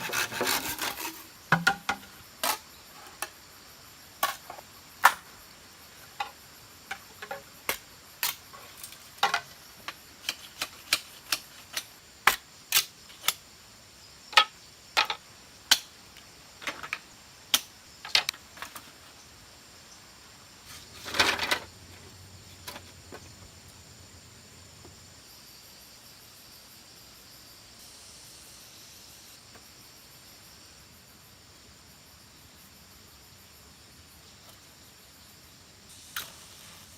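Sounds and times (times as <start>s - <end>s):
faint insect chirring: 0.0s - 36.9s.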